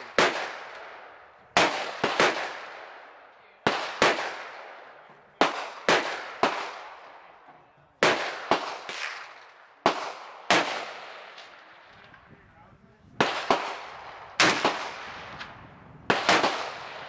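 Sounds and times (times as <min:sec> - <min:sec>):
rifle shots: 0:00.0 - 0:07.3, 0:08.0 - 0:12.2, 0:13.2 - 0:17.0
faint gunshots: 0:00.0 - 0:07.4, 0:08.0 - 0:12.2, 0:13.2 - 0:17.0.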